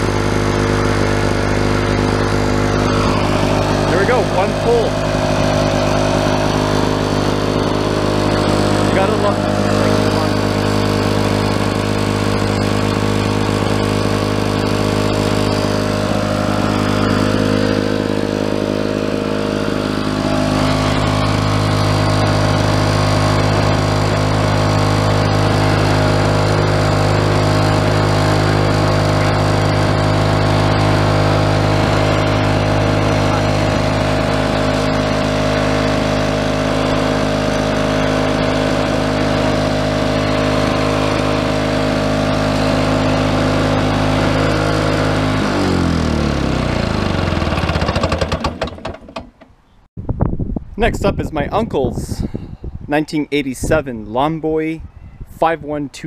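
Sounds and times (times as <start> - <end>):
two-stroke mower engine running: 0.0 - 49.6.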